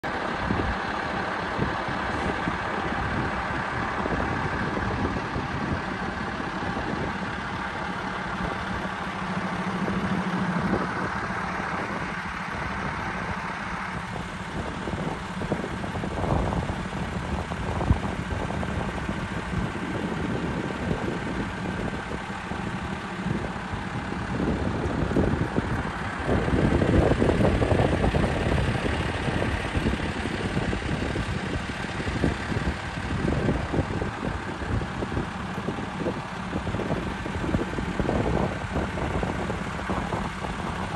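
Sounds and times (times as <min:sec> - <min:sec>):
vehicle engine and road noise: 0:00.0 - 0:40.9.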